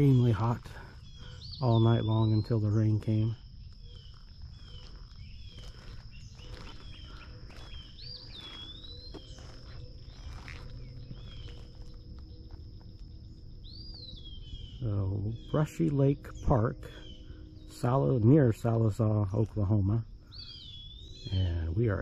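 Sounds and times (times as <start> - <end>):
birds chirping falling notes: 0.0 - 22.0
high insect drone: 0.0 - 22.0.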